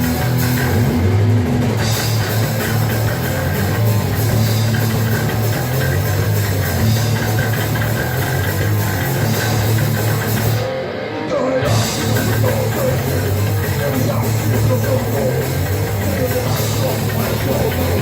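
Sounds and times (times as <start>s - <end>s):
distorted metal music with drums: 0.0s - 18.0s.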